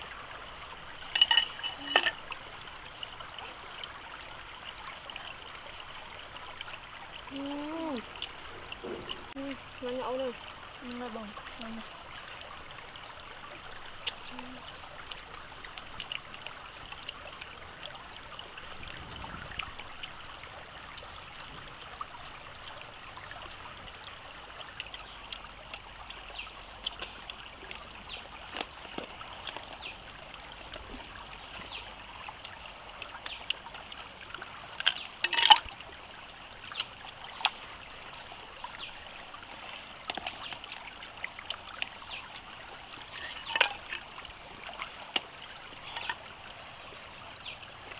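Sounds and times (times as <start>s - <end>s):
stream babbling over rocks: 0.0s - 47.9s.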